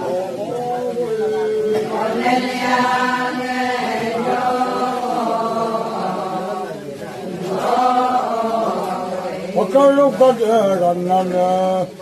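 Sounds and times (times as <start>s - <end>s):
chant with held gliding notes: 0.6s - 10.9s.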